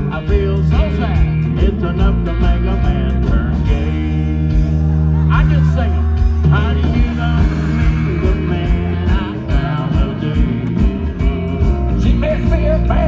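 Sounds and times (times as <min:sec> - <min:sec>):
country rock band playing: 0:00.0 - 0:13.0
electric guitar: 0:00.0 - 0:13.0
steady drum beat: 0:00.0 - 0:13.0.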